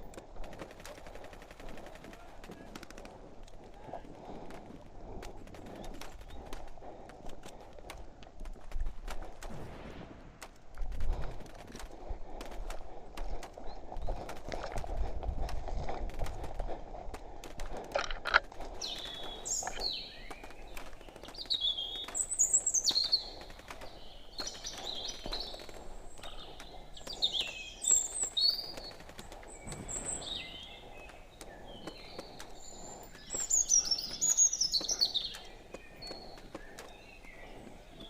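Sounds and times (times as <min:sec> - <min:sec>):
faint clicks: 0:00.0 - 0:09.7, 0:10.3 - 0:38.0
small birds chirping: 0:00.0 - 0:15.2, 0:16.1 - 0:38.0.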